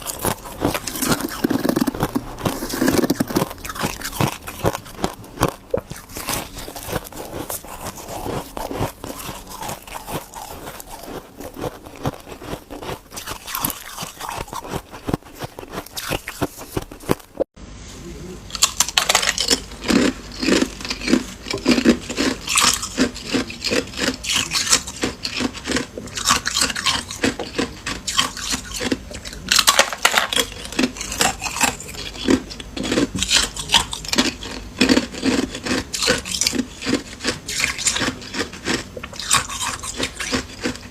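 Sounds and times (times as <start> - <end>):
person crunching ice: 0.0 - 17.5, 18.5 - 40.9.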